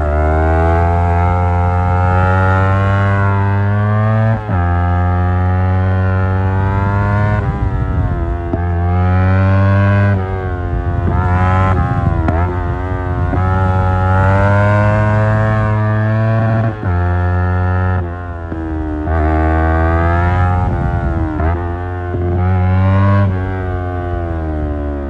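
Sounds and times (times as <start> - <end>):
motorcycle engine revving hard: 0.0 - 25.0.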